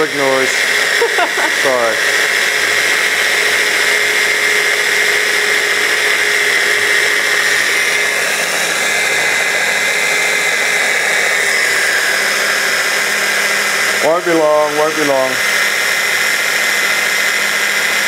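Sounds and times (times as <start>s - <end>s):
wand blender chopping food: 0.0s - 18.0s.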